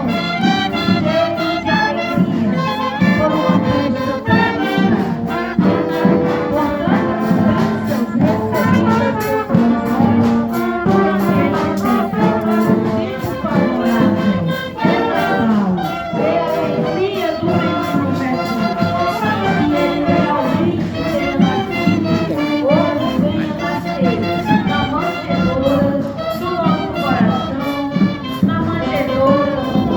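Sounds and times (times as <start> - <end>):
brass band playing: 0.0 - 29.9
steady drum beat: 0.0 - 29.9
trumpets and trombones melody: 0.0 - 29.9.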